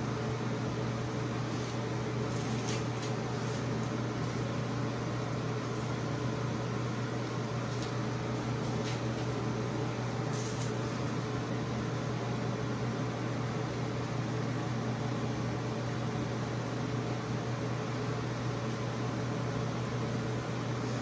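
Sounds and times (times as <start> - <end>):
electric fan humming: 0.0 - 21.0.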